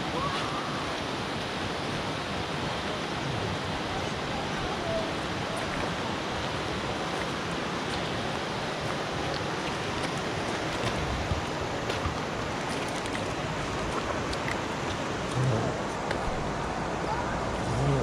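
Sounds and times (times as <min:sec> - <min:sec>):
stream running over stones: 0:00.0 - 0:18.0.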